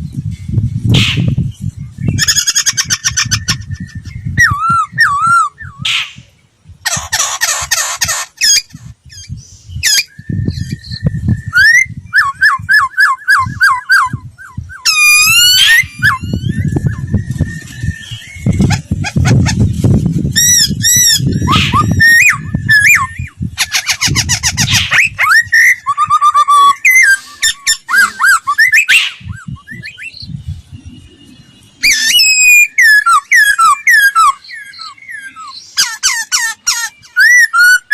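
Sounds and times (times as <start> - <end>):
bird singing whistled phrases: 2.0 - 6.2, 8.5 - 18.8, 20.4 - 30.3, 30.9 - 37.9.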